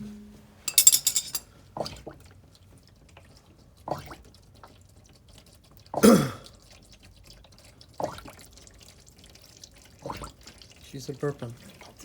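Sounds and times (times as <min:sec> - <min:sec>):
oil draining and glugging: 0:01.7 - 0:12.0.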